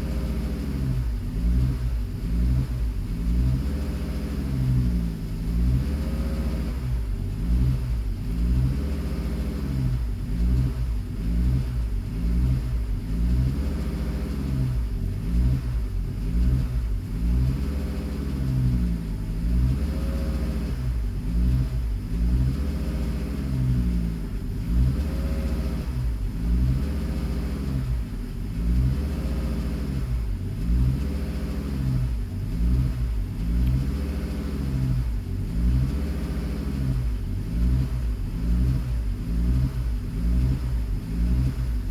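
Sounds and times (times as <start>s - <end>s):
car engine revving up and down: 0.0s - 41.9s.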